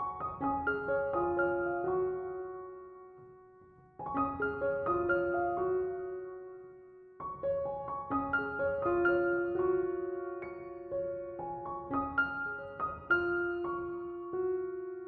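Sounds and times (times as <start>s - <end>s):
gentle piano relaxation music: 0.0s - 15.0s.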